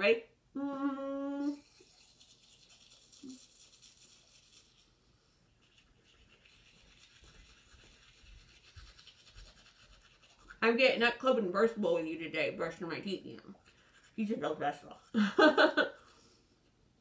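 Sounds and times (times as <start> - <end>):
toothbrush scrubbing teeth: 1.4 - 11.4, 12.1 - 16.4.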